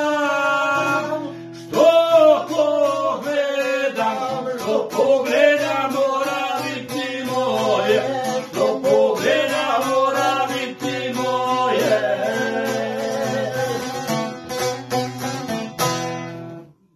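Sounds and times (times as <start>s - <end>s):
man singing folk song: 0.0s - 15.3s
strummed lute: 0.0s - 16.8s.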